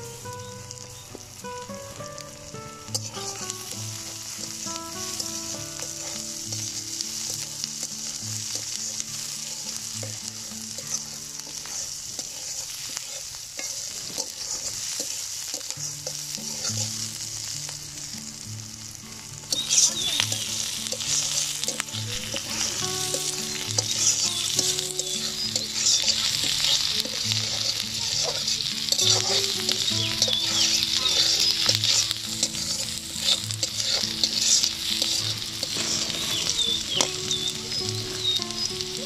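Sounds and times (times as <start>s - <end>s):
onions sizzling in oil: 0.0s - 39.0s
metal spatula scraping pan: 2.9s - 17.0s, 19.5s - 39.0s.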